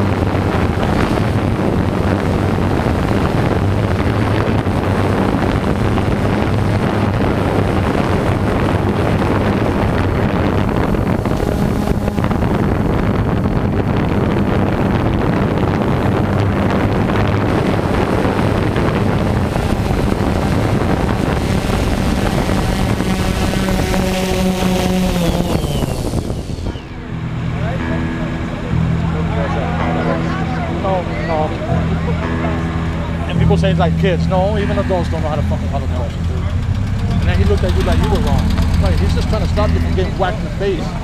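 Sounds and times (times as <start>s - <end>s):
drone motor hum: 0.0s - 41.0s
drone propellers rushing: 0.0s - 41.0s.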